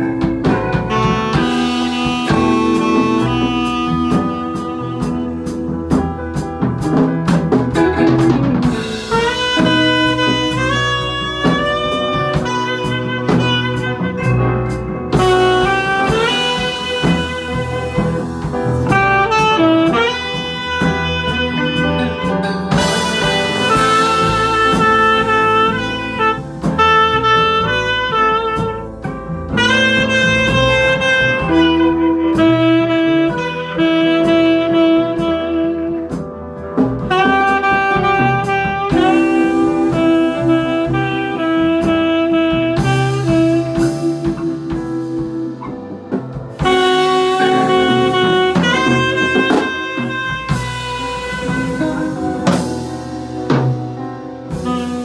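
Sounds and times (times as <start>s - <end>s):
tenor saxophone melody: 0.0s - 6.9s, 7.8s - 55.0s
drum kit: 0.0s - 55.0s
upright piano: 0.0s - 55.0s.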